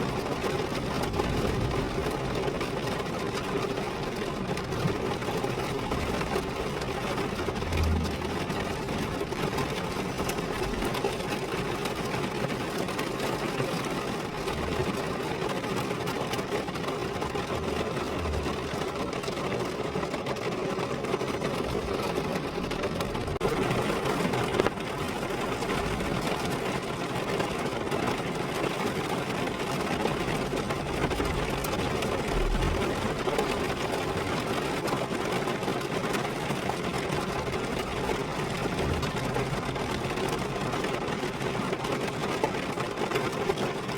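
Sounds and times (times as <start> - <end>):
rain pattering on a car: 0.0 - 43.9.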